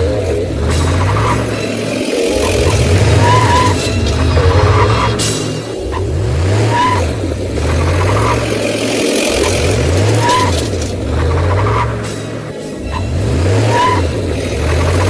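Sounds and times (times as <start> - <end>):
engine revving up and down: 0.0 - 15.0.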